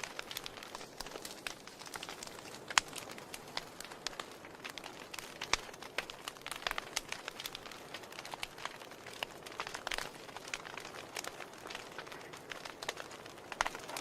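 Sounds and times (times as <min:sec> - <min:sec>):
logs crackling in fireplace: 0:00.0 - 0:14.0.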